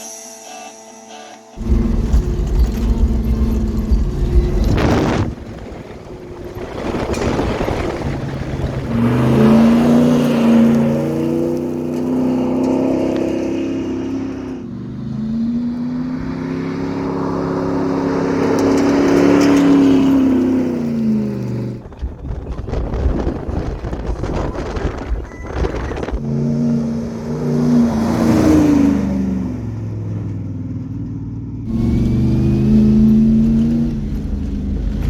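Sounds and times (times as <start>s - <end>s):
vehicle engine revving: 1.6s - 35.0s.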